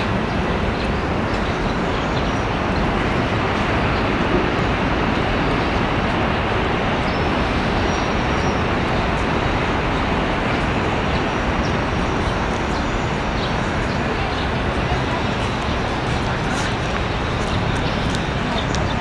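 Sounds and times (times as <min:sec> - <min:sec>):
city traffic roar: 0:00.0 - 0:19.0.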